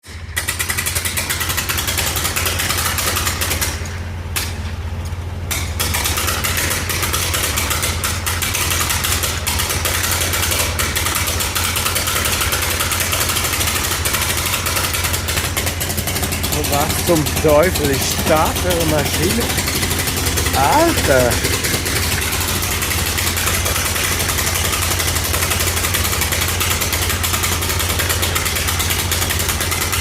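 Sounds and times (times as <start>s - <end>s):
diesel engine clattering: 0.1s - 30.0s.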